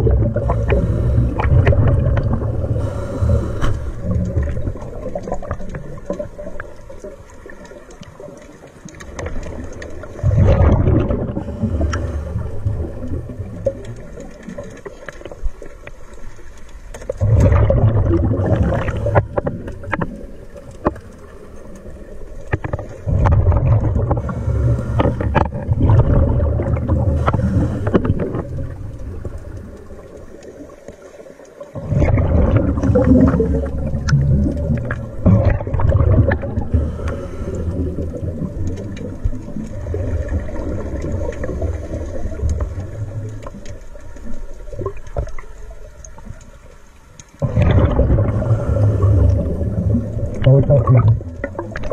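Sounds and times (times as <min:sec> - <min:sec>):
underwater air bubbling: 0:00.0 - 0:46.7, 0:47.3 - 0:51.9.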